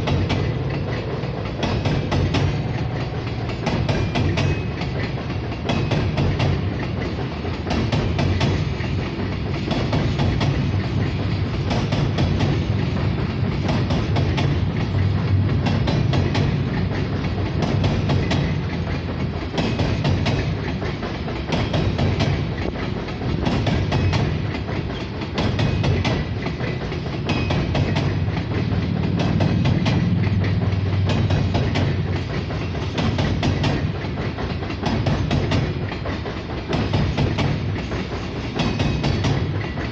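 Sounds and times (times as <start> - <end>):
freight train rumble: 0.0 - 39.9
train wheels clickety-clack: 0.0 - 39.9.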